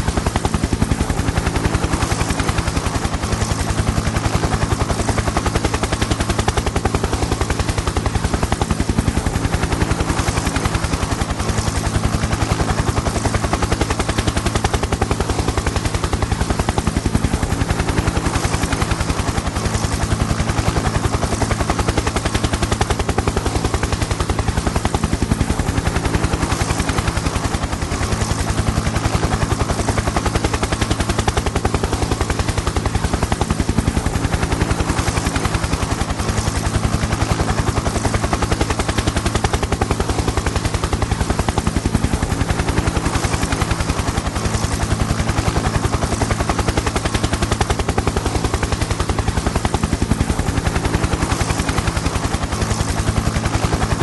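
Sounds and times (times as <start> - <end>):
helicopter rotor chop: 0.0 - 54.0.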